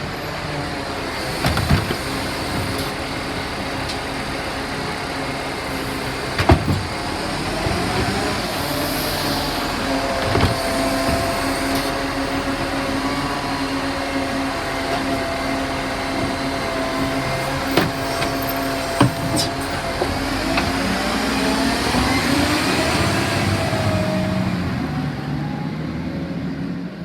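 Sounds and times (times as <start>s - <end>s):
garbage truck engine and hydraulics: 0.0s - 27.0s.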